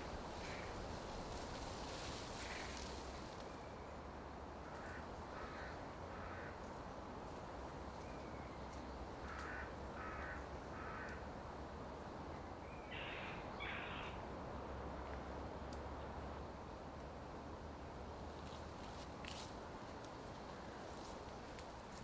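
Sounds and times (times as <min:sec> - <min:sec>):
low forest background: 0:00.0 - 0:22.0.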